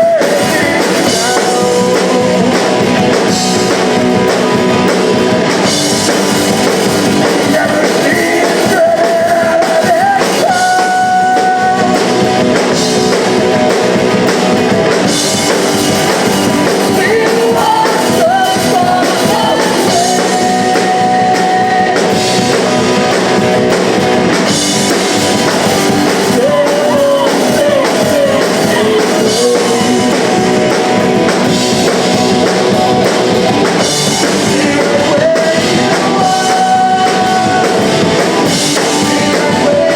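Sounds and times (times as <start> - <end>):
drum kit: 0.0 - 39.9
guitars: 0.0 - 39.9
person singing: 0.0 - 39.9.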